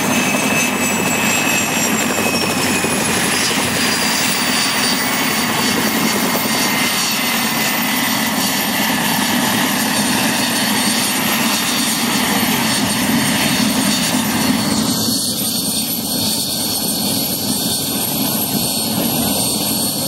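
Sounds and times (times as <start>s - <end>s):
helicopter rotor: 0.0s - 20.0s
helicopter turbine whine: 0.0s - 20.0s.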